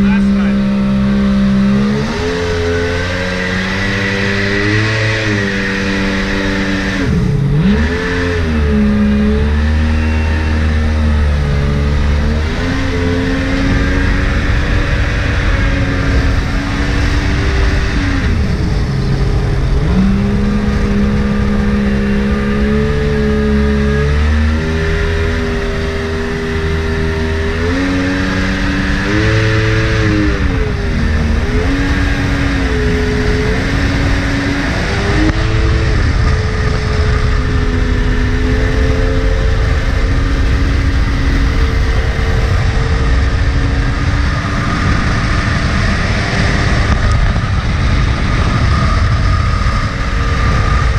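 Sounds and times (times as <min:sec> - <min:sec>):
jet boat engine revving: 0:00.0 - 0:50.9
low rumble: 0:00.0 - 0:50.9.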